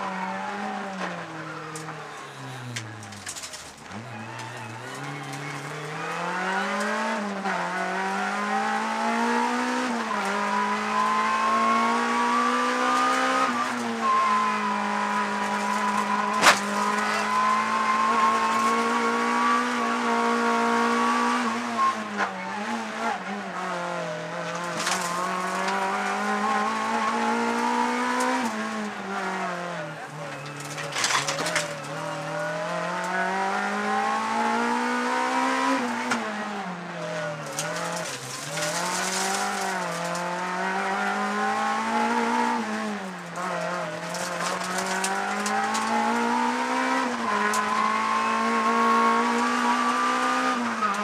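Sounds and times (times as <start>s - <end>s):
car engine revving through gears: 0.0s - 51.0s.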